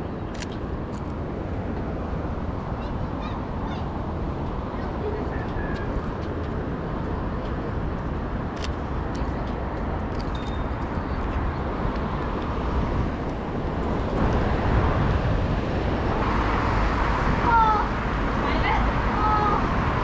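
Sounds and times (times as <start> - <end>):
road traffic rumble: 0.0 - 20.0
wind: 0.0 - 20.0.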